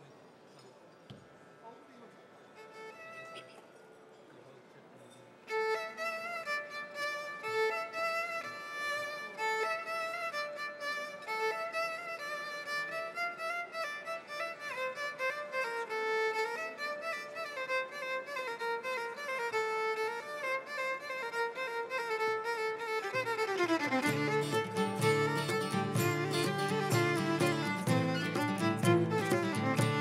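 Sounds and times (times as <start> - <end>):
solo violin sliding melody: 2.5 - 3.3, 5.4 - 30.0.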